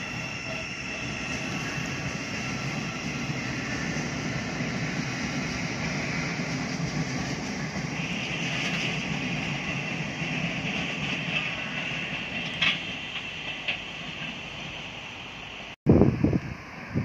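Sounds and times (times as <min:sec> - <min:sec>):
train high whine: 0:00.0 - 0:17.0
train wheels rumbling on rail: 0:00.0 - 0:17.0.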